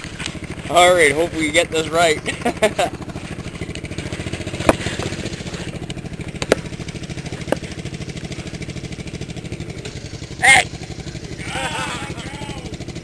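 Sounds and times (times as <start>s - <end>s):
garden tractor engines running: 0.0s - 13.0s.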